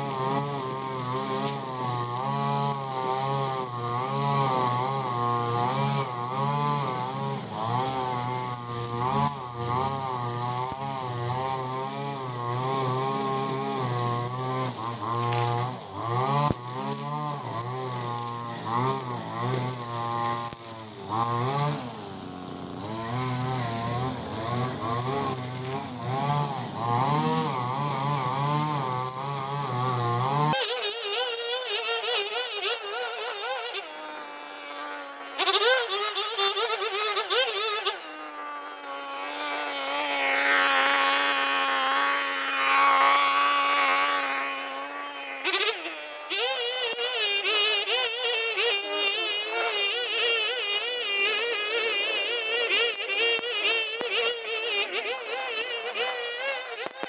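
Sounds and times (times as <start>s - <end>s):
brush cutter cutting grass: 0.0s - 57.0s.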